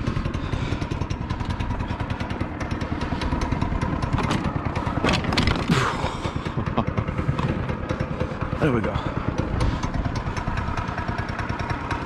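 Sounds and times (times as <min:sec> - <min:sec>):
go-kart engine running: 0:00.0 - 0:12.0
knocks and rattles: 0:01.1 - 0:12.0.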